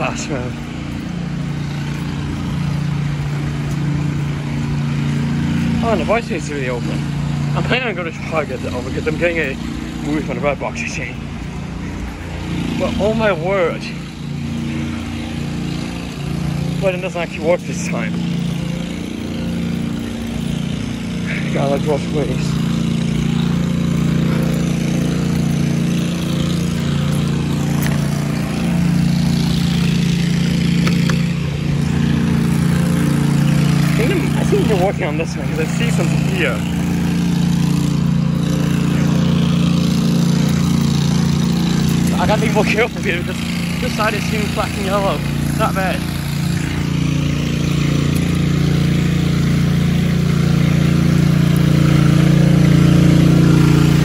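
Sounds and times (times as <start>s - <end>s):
low engine-like hum: 0.0s - 54.0s.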